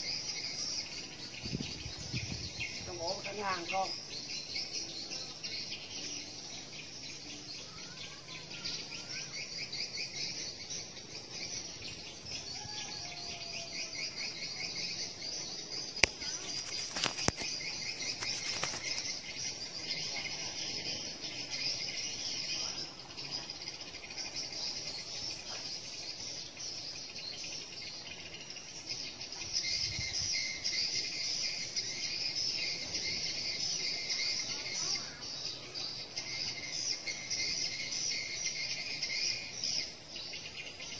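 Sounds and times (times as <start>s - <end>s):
faint bird chirps: 0.0s - 40.9s
insects trilling: 0.0s - 40.9s.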